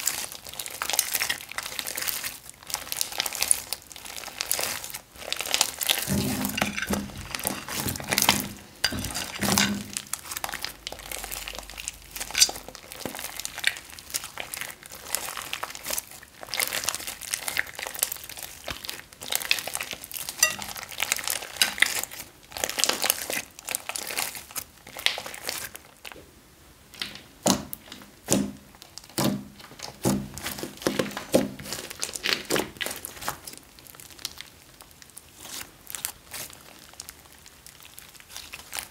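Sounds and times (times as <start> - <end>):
slime with beads crackling: 0.0 - 26.2, 27.0 - 38.9.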